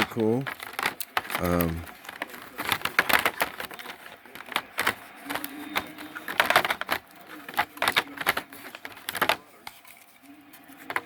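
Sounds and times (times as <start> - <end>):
plastic box clicks and taps: 0.0 - 10.0
packaging rustling: 0.0 - 11.0.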